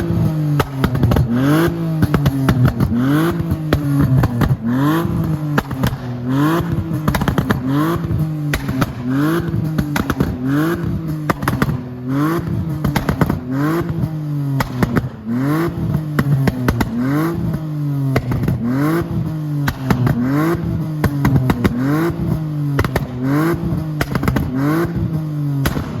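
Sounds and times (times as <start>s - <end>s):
car engine revving: 0.0s - 26.0s
exhaust pops and crackles: 0.0s - 26.0s.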